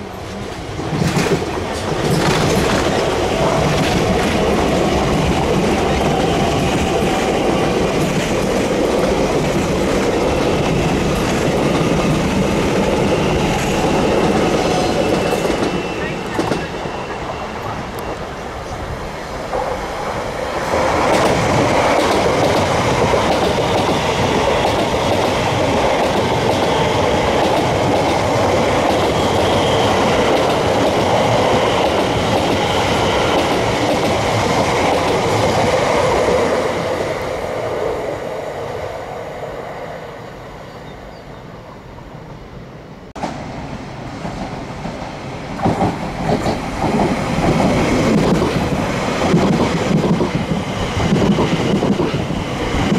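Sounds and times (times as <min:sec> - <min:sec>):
train passing on rails: 0:00.0 - 0:52.9.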